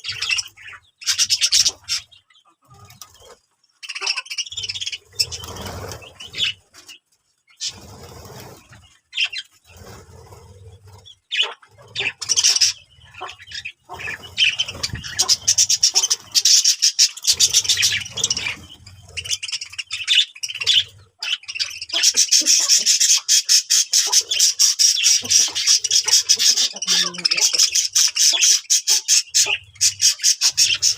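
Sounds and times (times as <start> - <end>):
birds chattering and squawking: 0.0 - 30.9.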